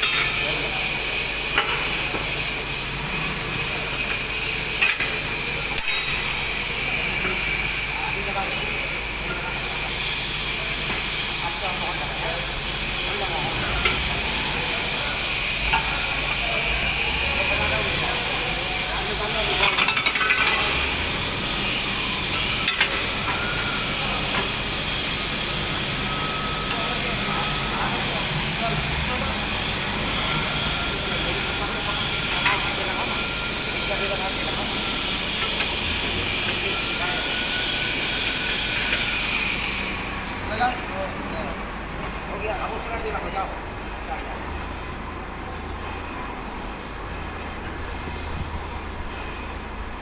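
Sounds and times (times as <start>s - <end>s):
heavy machinery humming and whining: 0.0s - 50.0s.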